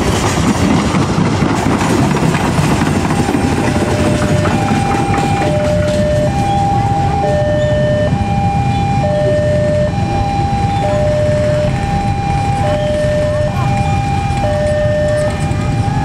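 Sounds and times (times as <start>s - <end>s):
train rumbling over rails: 0.0s - 16.0s
two-tone crossing alarm: 3.0s - 16.0s.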